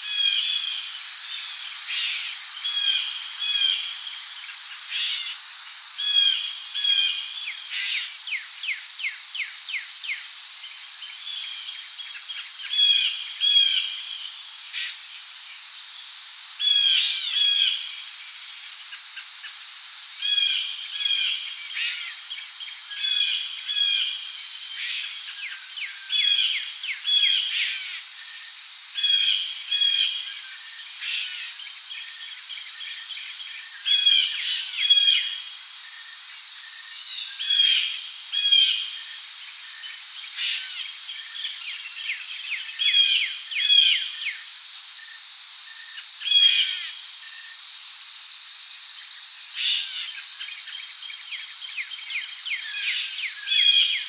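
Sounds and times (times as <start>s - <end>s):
crickets droning: 0.0s - 54.0s.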